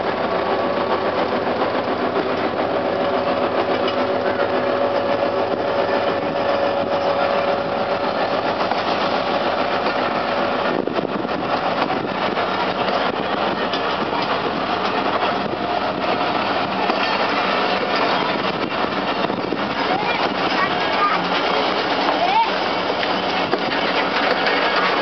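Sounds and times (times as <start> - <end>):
train wheels rattling over rails: 0.0 - 25.0.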